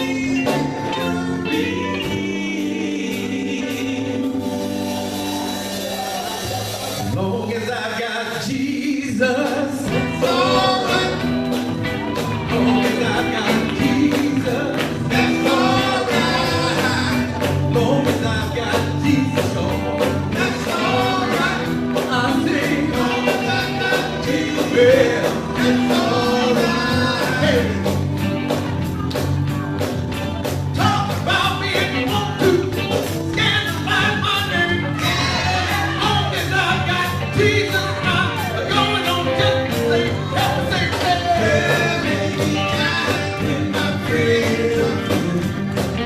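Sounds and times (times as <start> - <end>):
vocal group singing: 0.0 - 28.4, 30.8 - 46.0
band with drums and bass: 0.0 - 46.0.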